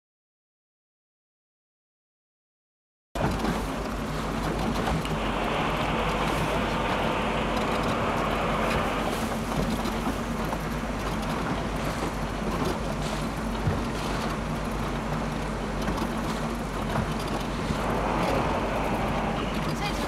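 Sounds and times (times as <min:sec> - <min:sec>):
motorboat engine droning: 0:03.2 - 0:20.0
water rushing past hull: 0:03.2 - 0:20.0
wind rumbling on microphone: 0:03.2 - 0:20.0.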